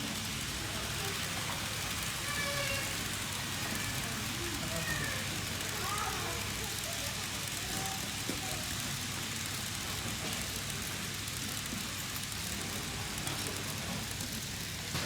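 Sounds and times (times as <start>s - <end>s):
faint voices: 0.0s - 15.0s
model train running on rails: 0.0s - 15.0s.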